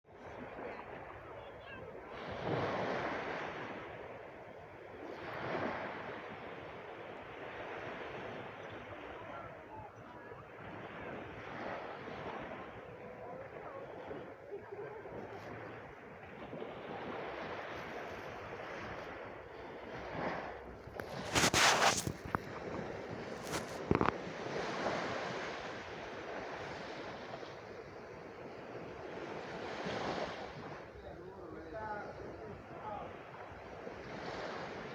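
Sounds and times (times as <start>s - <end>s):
sea waves surging: 0.1s - 34.9s.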